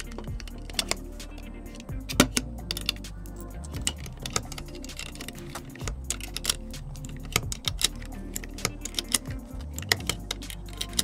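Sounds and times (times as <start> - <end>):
background music: 0.0 - 11.0
cartridges clicking into magazine: 0.0 - 11.0.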